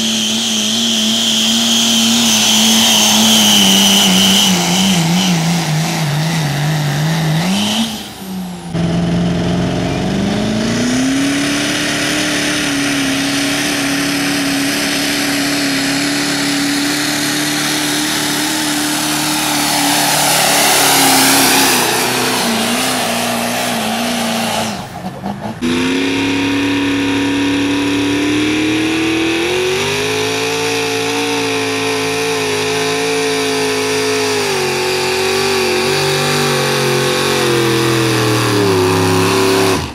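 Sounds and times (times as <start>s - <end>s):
diesel truck engines at high revs: 0.0s - 39.9s.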